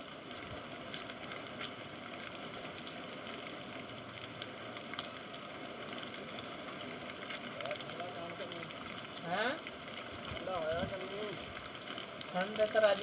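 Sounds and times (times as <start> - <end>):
rain hissing: 0.0 - 13.0
raindrops ticking: 0.0 - 13.0.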